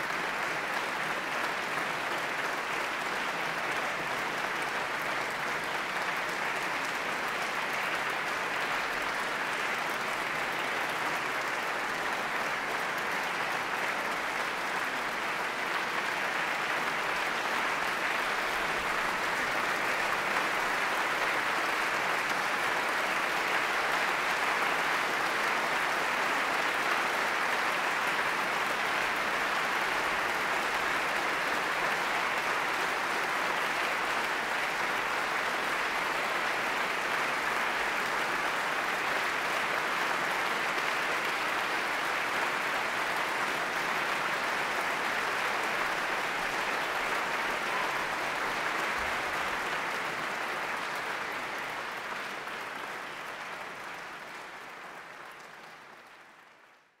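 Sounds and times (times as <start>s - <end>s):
audience applauding: 0.0s - 57.0s.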